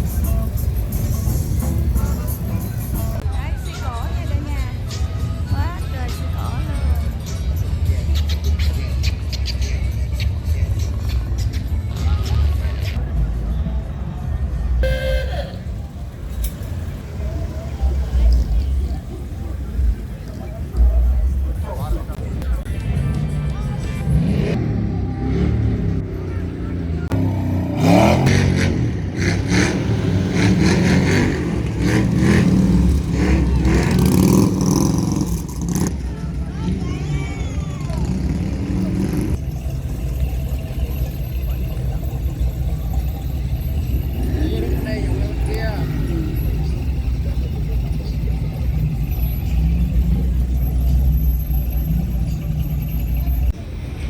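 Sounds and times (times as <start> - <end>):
car engines passing: 0.0 - 54.0.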